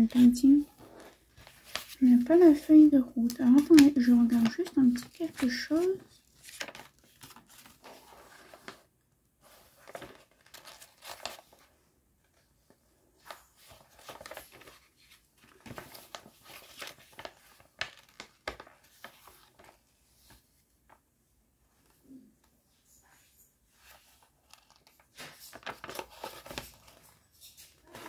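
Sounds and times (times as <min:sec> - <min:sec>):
paper rustling and crinkling: 0:00.0 - 0:21.0, 0:23.7 - 0:28.0.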